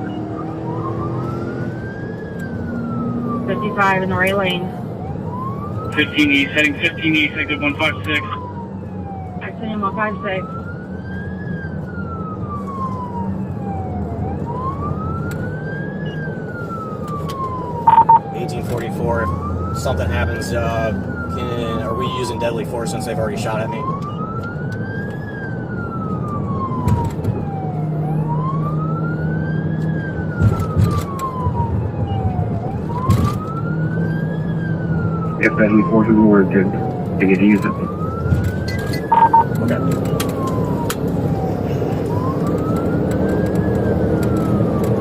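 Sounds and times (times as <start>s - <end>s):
police siren wailing: 0.0s - 45.0s
road and engine rumble: 0.0s - 45.0s.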